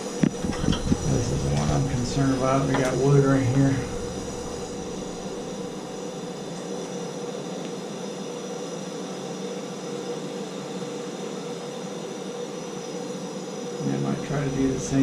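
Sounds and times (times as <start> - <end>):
gas torch flame hissing: 0.0 - 15.0.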